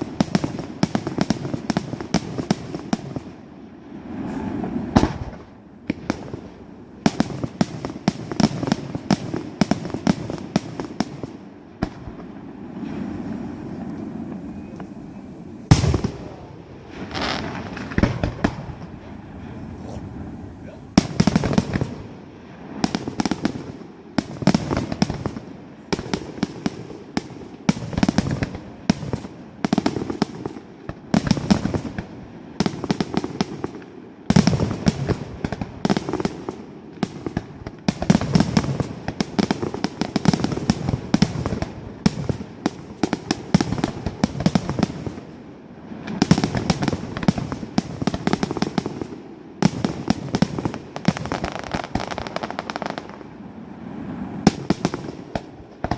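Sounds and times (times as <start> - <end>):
fireworks bangs and pops: 0.0 - 3.4, 4.7 - 14.9, 15.7 - 19.1, 20.9 - 53.3, 54.4 - 55.9.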